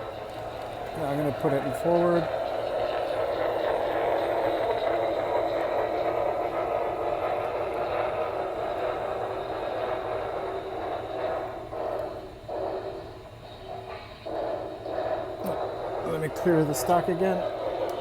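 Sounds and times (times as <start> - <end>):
steam engine sounds from small speaker: 0.0 - 18.0.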